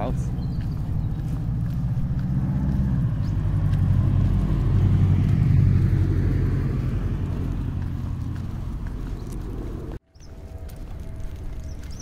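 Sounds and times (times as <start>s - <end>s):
car driving past: 0.2s - 10.0s.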